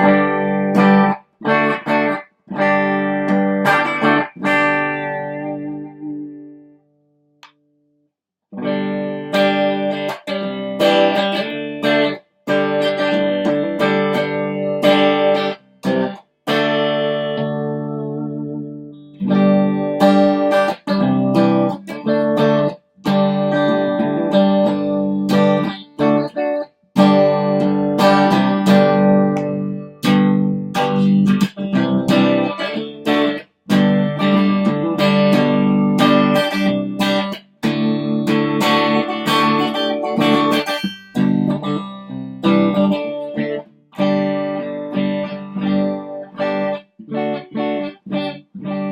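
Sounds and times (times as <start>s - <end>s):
overdriven electric guitar chords: 0.0s - 7.6s, 8.6s - 48.9s.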